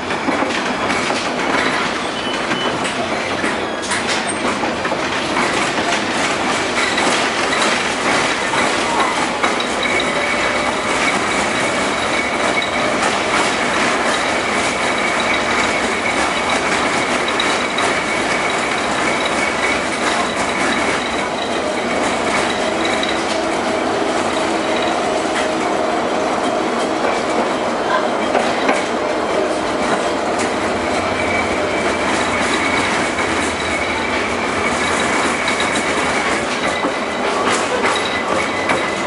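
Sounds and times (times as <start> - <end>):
tram wheels clattering on rails: 0.0 - 39.0.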